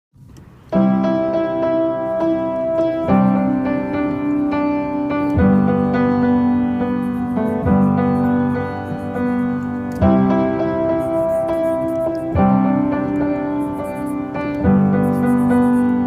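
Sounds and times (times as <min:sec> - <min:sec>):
slow piano chords: 0:00.2 - 0:16.0.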